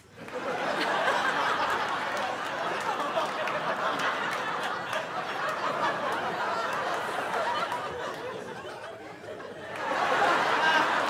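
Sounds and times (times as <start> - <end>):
audience laughing: 0.0 - 11.0.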